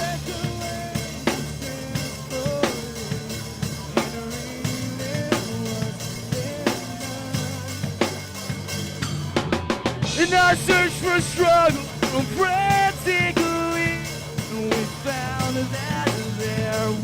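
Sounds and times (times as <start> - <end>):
band playing: 0.0 - 17.0
drum kick and snare beat: 0.0 - 17.0.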